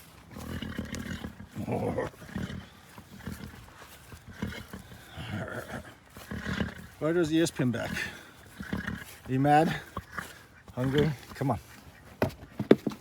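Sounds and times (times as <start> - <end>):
farm animal calling: 0.0 - 12.7.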